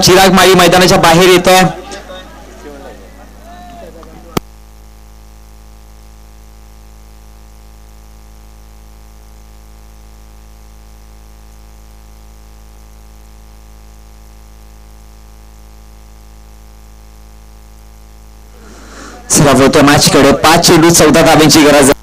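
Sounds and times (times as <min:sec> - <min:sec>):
electrical hum and buzz: 0:00.0 - 0:22.0.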